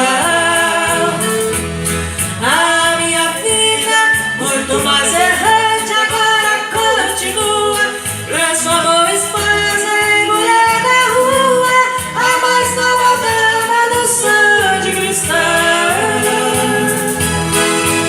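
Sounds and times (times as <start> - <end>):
person singing: 0.0 - 1.7, 2.4 - 17.6
instrumental accompaniment: 0.0 - 18.0.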